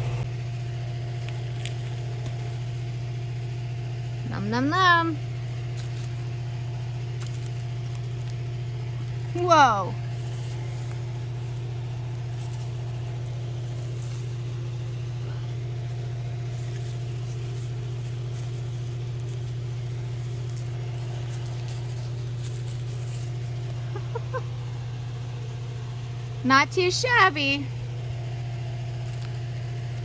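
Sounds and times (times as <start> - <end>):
ventilation fan humming: 0.0 - 30.0.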